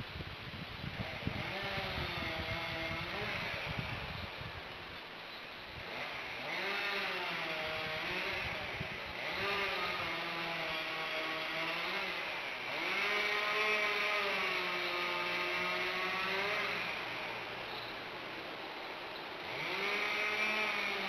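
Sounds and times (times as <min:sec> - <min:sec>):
chainsaw revving: 0:00.8 - 0:04.8, 0:05.6 - 0:21.0.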